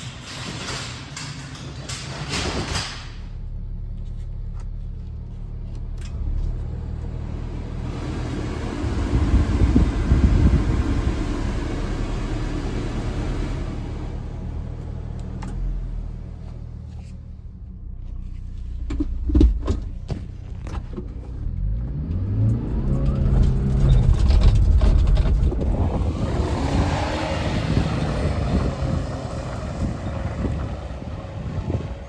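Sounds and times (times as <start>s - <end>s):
truck engine running: 3.1s - 21.5s, 22.8s - 32.0s.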